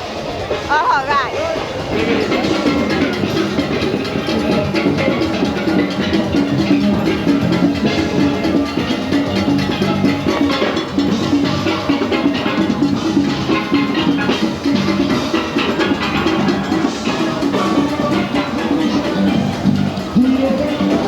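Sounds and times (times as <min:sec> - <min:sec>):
drums and percussion: 0:00.0 - 0:21.0
steelpans playing fast tune: 0:00.0 - 0:21.0.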